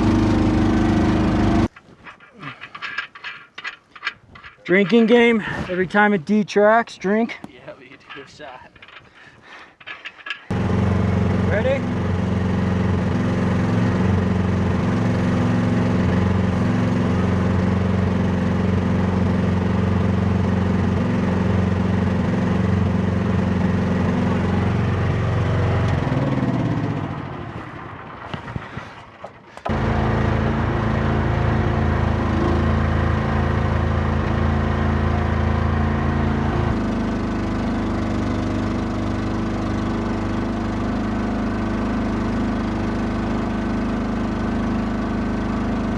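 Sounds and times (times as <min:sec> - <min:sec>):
excavator engine running: 0:00.0 - 0:05.7, 0:07.9 - 0:45.9.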